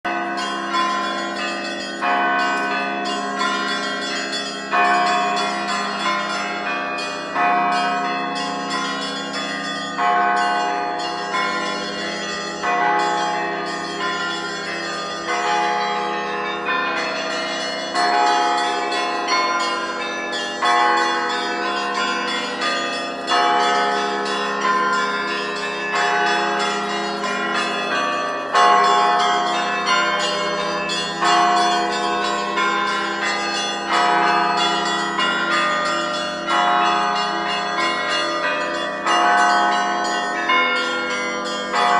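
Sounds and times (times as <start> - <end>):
church bells pealing: 0.1 - 41.9.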